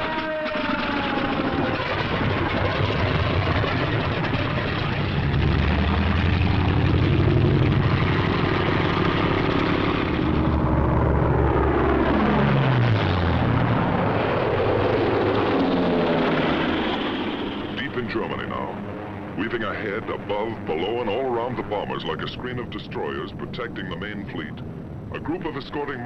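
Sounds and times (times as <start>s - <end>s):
propeller aircraft droning: 0.0s - 26.0s.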